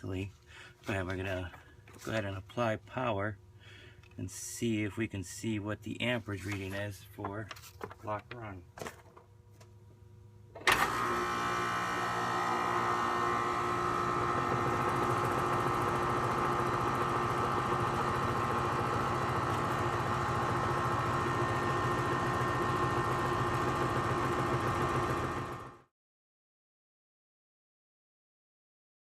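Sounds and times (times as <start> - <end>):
air conditioner unit humming: 0.0 - 25.6.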